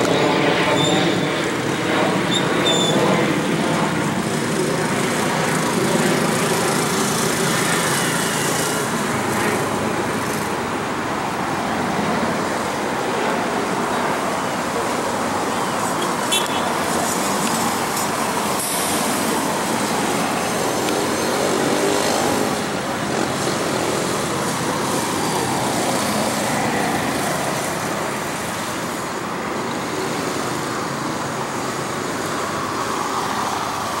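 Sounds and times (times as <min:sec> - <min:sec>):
jet engines rushing: 0:00.0 - 0:34.0.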